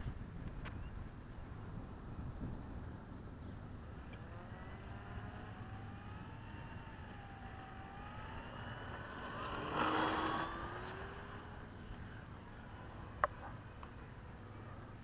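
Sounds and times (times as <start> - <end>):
electric motor and propeller whine: 0.2 - 15.0.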